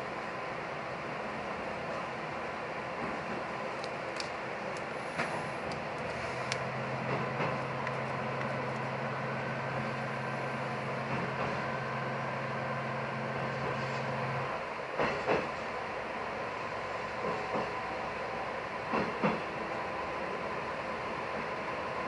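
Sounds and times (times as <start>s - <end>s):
diesel railcar engine drone: 0.0s - 22.0s.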